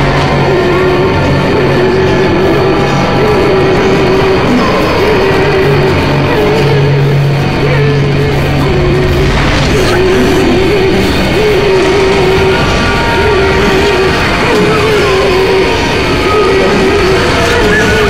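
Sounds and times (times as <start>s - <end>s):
loud rock music: 0.0s - 18.0s.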